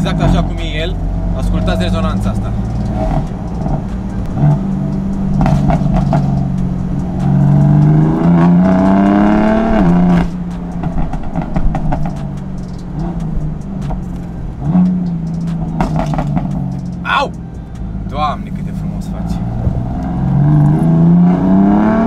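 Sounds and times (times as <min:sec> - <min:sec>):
car engine accelerating: 0:00.0 - 0:22.0
exhaust crackles and pops: 0:00.0 - 0:22.0.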